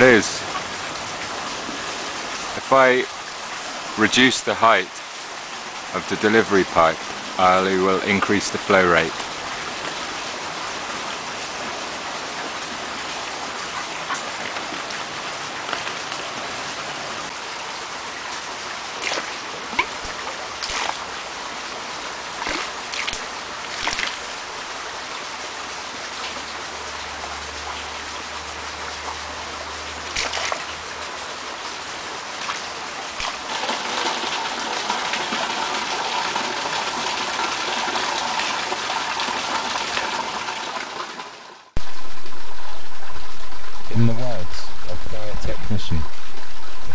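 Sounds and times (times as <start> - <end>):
running water: 0.0 - 46.9
water splashes: 0.0 - 46.9.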